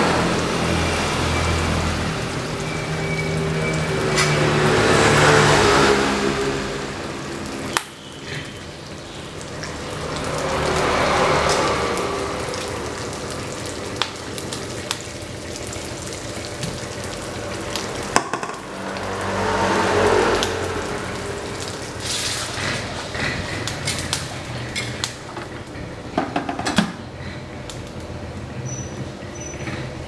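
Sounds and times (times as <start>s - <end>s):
food sizzling in a wok: 0.1s - 25.3s.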